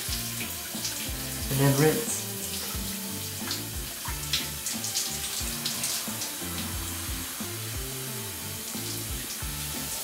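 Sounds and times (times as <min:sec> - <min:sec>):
background music with bass: 0:00.0 - 0:10.0
shower water splashing: 0:00.0 - 0:10.0.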